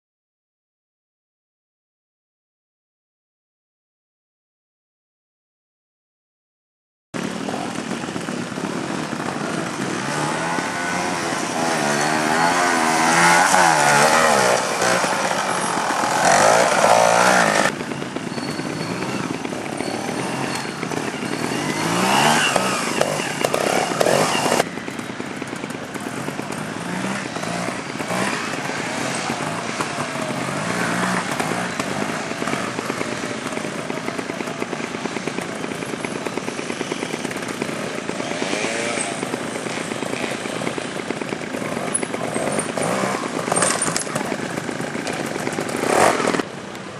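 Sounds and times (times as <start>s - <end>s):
motorcycle engines revving: 7.2s - 46.9s.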